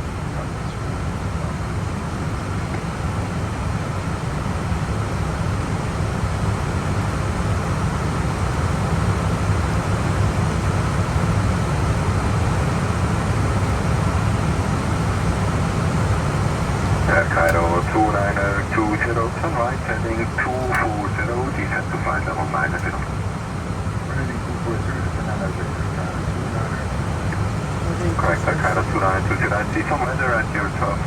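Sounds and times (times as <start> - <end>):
aircraft cockpit rumble and airflow: 0.0 - 31.0.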